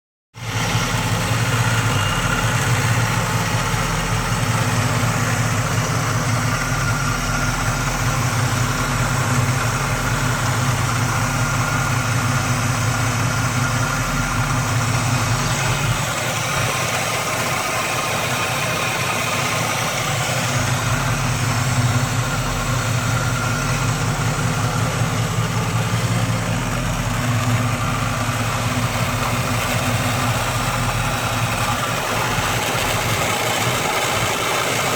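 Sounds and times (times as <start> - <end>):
car engine idling: 0.3 - 34.9.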